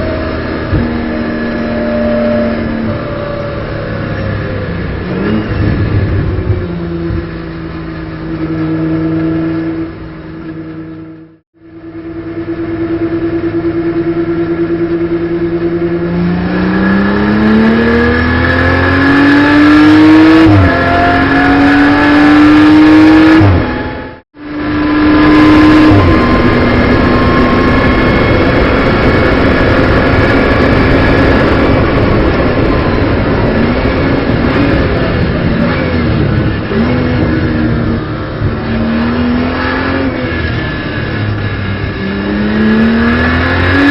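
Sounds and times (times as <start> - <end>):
race car engine revving: 0.0 - 11.3, 12.0 - 43.9.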